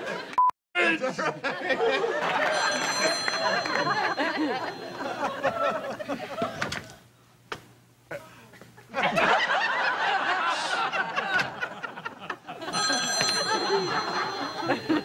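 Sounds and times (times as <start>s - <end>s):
people laughing: 0.0s - 7.0s, 8.5s - 15.0s.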